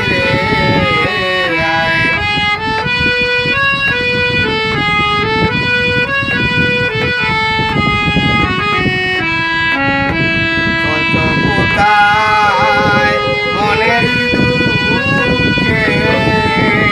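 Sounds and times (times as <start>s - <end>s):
folk music melody: 0.0s - 16.9s.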